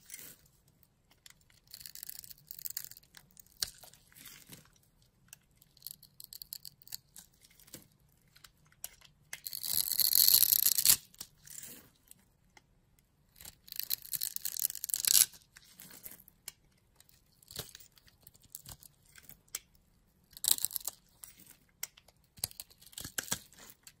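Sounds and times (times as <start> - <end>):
soap cubes crackling and crumbling: 0.0 - 12.7, 13.3 - 24.0.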